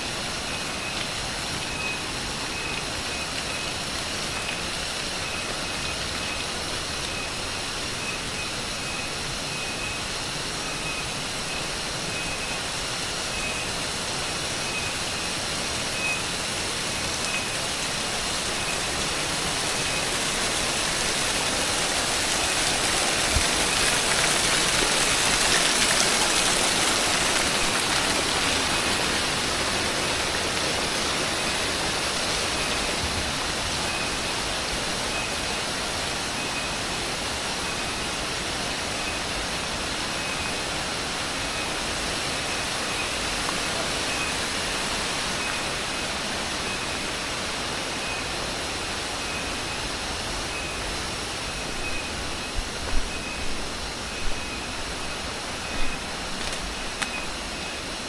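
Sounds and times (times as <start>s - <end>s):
pulsing high insect call: 0.0s - 58.0s
waterfall rushing: 0.0s - 58.0s.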